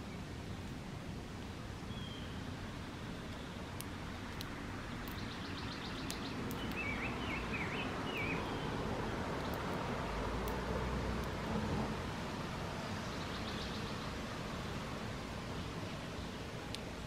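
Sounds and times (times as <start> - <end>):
outdoor background hiss and rumble: 0.0 - 17.0
songbirds calling: 1.4 - 10.6, 12.2 - 17.0.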